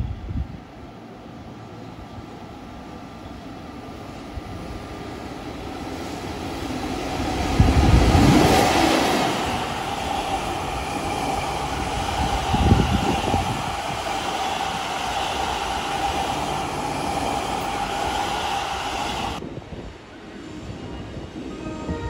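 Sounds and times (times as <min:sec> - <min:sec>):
train wheels rolling on rails: 0:01.8 - 0:21.5.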